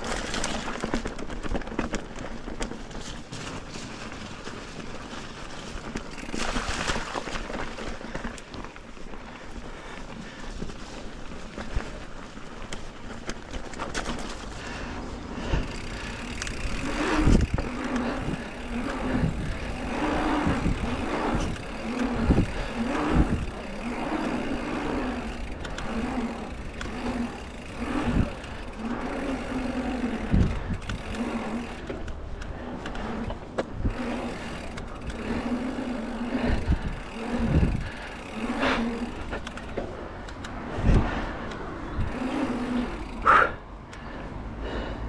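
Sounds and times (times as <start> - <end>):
bike tyres rolling on rough ground: 0.0 - 45.0.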